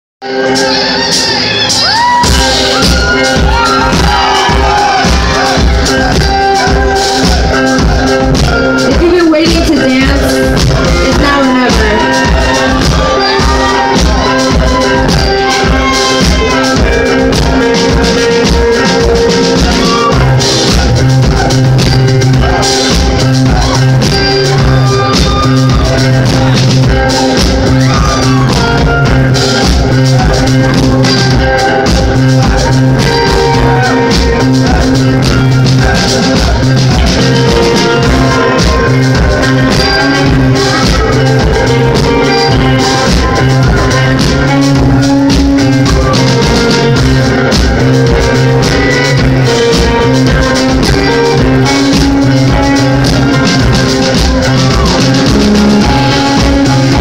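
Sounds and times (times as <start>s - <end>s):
rock band playing loud: 0.2s - 57.0s.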